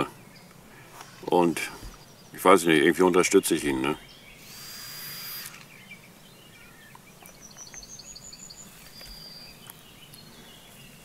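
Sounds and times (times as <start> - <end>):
bird singing: 0.0 - 11.0
rural outdoor ambience: 0.0 - 11.0.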